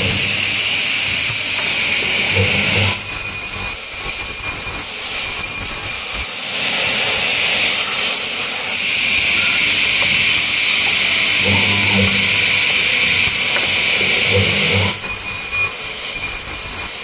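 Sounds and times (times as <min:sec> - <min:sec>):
saw cutting aluminum screech: 0:01.2 - 0:17.0
thin high whine: 0:02.3 - 0:17.0.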